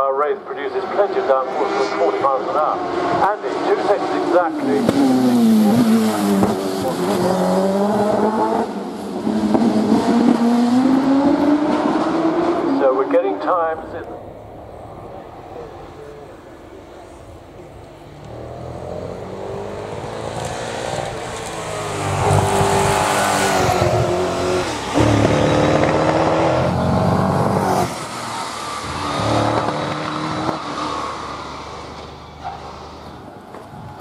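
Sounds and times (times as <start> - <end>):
racing car accelerating: 0.8 - 16.0, 18.1 - 33.2.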